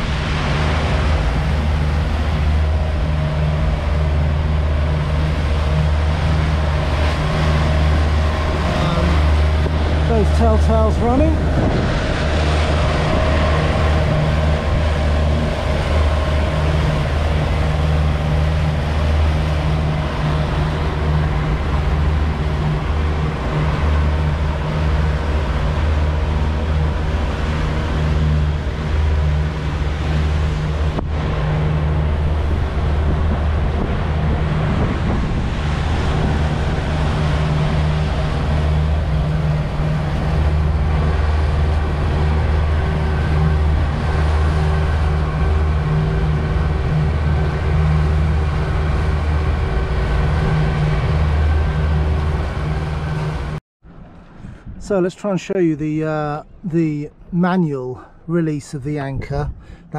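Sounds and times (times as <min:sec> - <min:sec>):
wind noise: 0:00.0 - 0:55.8, 0:56.4 - 0:59.9
outboard engines droning: 0:00.0 - 0:59.9
rush of boat wake: 0:00.0 - 0:59.9.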